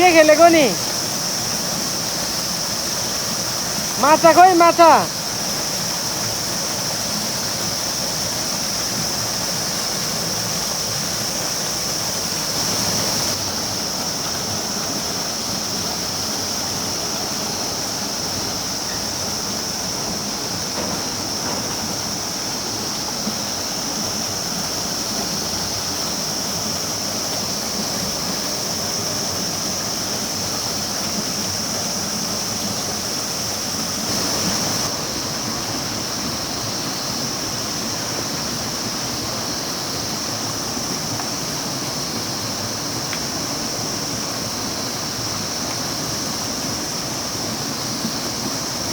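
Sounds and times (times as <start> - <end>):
stream rushing: 0.0 - 48.9.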